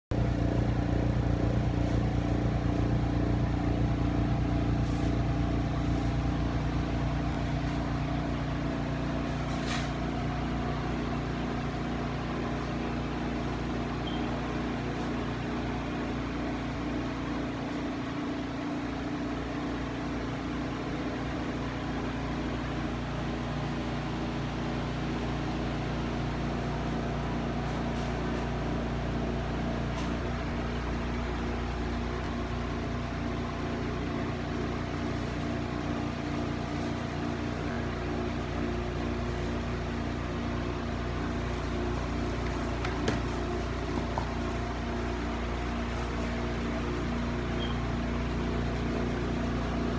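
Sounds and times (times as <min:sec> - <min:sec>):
machine humming: 0:00.1 - 0:49.9.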